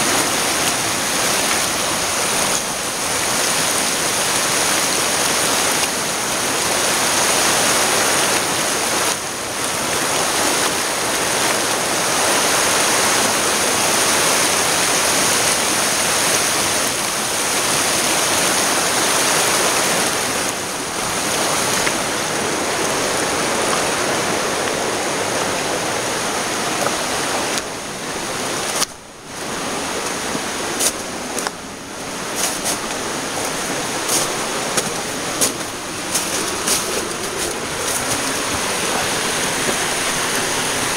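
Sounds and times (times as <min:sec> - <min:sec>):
rapids rushing over boulders: 0:00.0 - 0:40.9.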